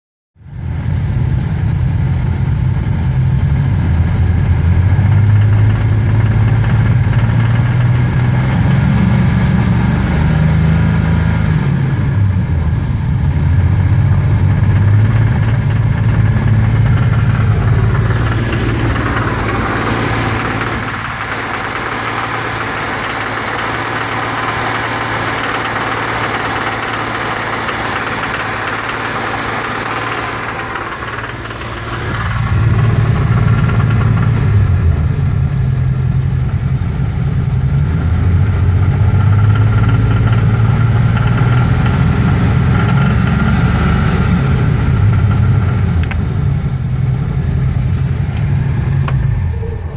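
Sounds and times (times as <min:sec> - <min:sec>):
car engine knocking and rattling: 0:00.5 - 0:49.9.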